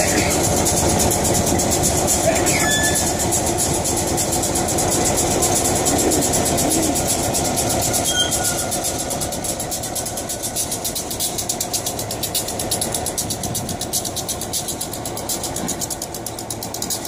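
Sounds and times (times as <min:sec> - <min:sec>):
diesel locomotive engine idling: 0:00.0 - 0:17.0.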